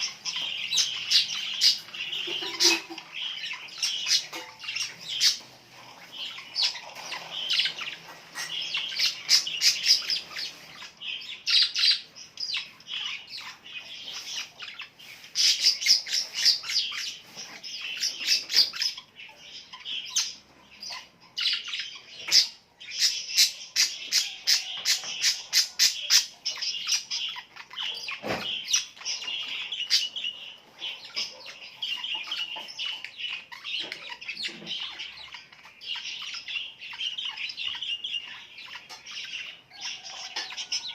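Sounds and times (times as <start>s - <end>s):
birds chirping and squawking: 0.0s - 40.9s.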